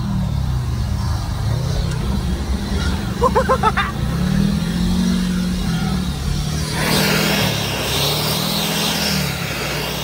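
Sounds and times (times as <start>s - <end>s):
off-road engine revving under load: 0.0s - 10.0s.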